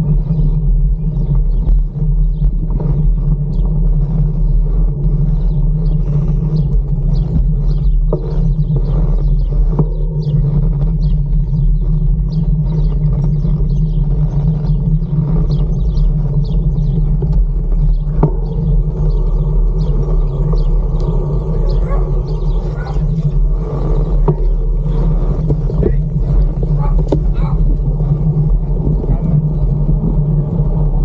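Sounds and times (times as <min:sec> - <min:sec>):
tyre noise on paved path: 0:00.0 - 0:31.0
wind rumble on microphone: 0:00.0 - 0:31.0.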